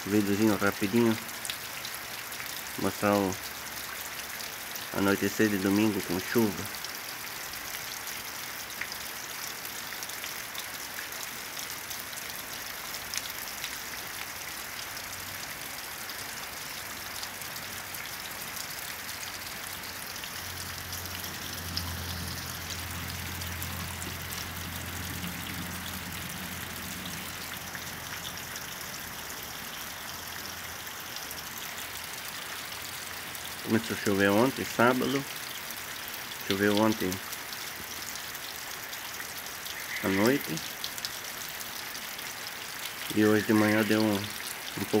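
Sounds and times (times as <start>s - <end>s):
rain on gravel and plants: 0.0s - 45.0s.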